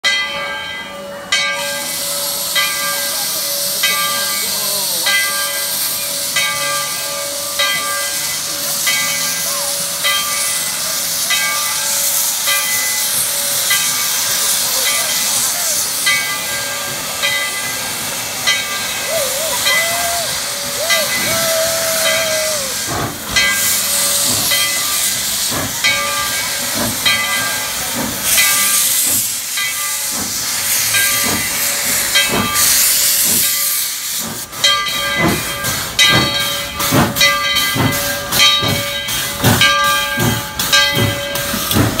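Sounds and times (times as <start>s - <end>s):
steam locomotive hissing: 0.1s - 42.0s
locomotive chuffing beats: 1.6s - 42.0s.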